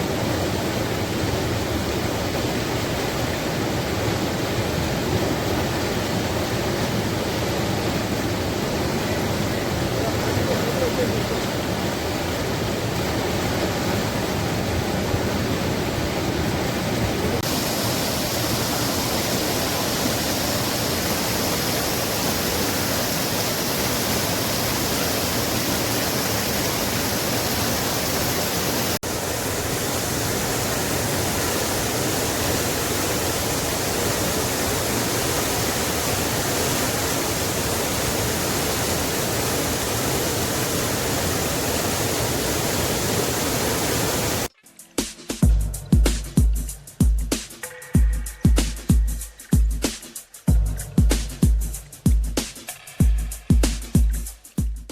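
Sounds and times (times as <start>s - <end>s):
floodwater rushing: 0.0s - 44.6s.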